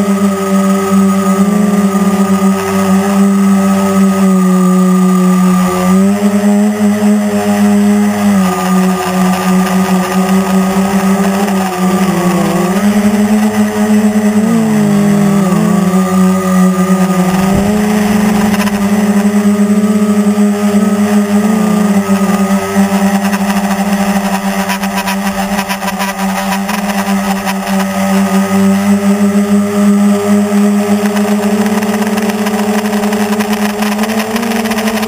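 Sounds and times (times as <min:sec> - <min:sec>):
drone propellers buzzing: 0:00.0 - 0:35.0.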